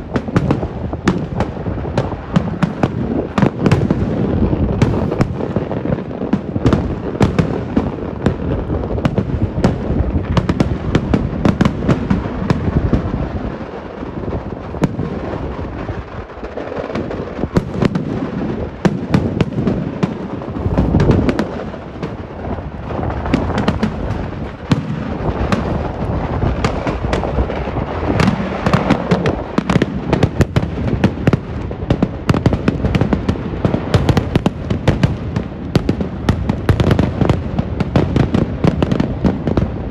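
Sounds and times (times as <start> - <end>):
deep firework boom: 0.0 - 39.9
firework bangs and cracks: 0.0 - 39.9.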